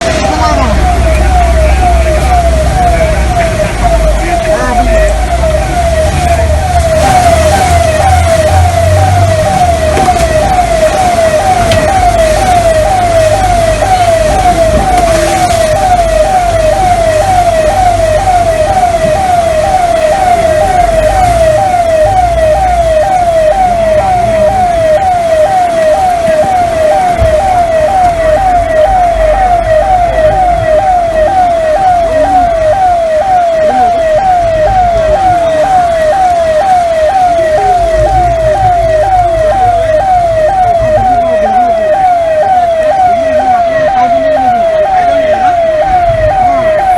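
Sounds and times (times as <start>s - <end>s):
falling wail alarm tone: 0.0s - 46.9s.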